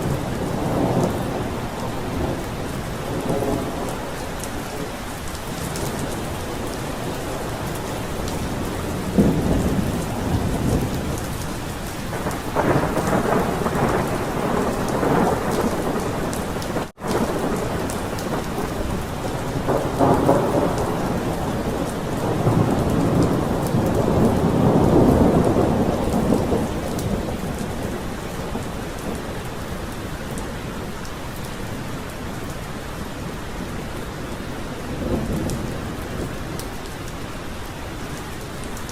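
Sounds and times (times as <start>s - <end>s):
thunder rumbling: 0.0s - 32.4s, 33.0s - 38.9s
steady rain: 0.0s - 38.9s.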